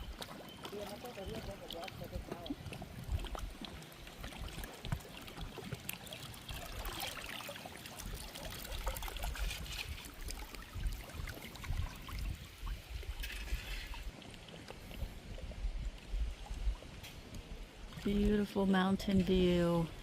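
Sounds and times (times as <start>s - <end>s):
river water trickling and splashing: 0.0s - 20.0s.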